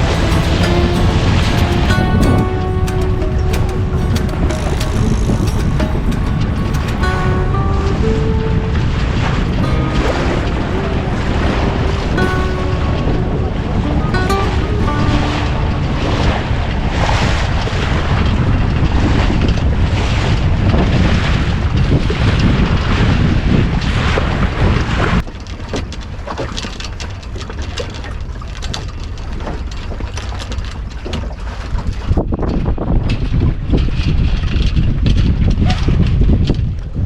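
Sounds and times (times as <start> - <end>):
wind buffeting microphone: 0.0 - 25.2, 30.6 - 37.0
water rushing along boat hull: 0.0 - 37.0.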